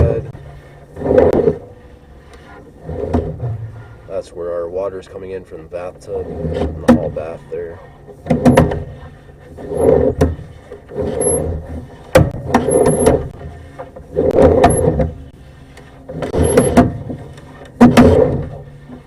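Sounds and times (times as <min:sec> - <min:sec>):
cable scraping rattle in pipe: 0:00.0 - 0:19.0.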